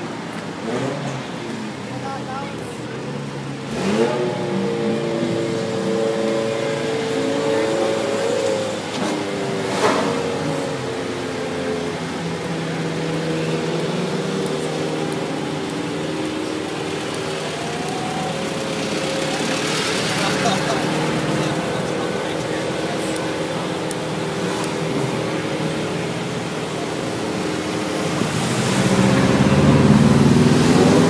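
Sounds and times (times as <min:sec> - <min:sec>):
car engines idling: 0:00.0 - 0:31.0.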